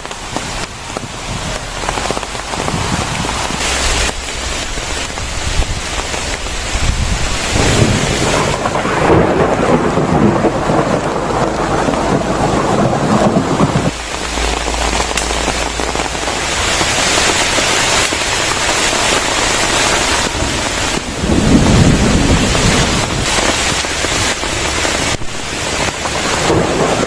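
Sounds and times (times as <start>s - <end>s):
heavy rain: 0.0s - 27.0s
wind buffeting: 0.0s - 27.0s.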